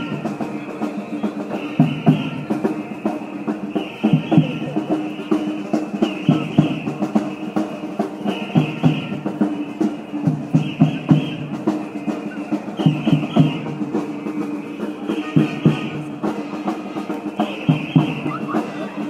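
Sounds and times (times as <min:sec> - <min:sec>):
drums beating: 0:00.0 - 0:19.0.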